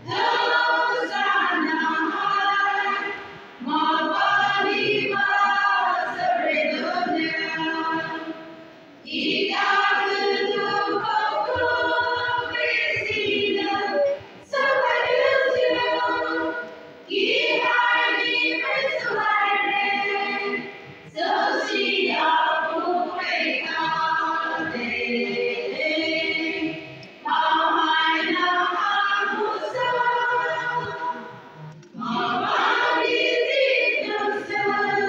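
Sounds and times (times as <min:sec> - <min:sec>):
women's choir singing: 0:00.0 - 0:35.0.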